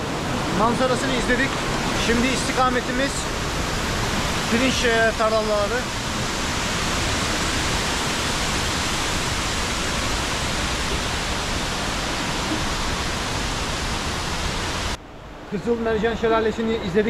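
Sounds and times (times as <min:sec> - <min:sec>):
waterfall rushing: 0:00.0 - 0:15.4.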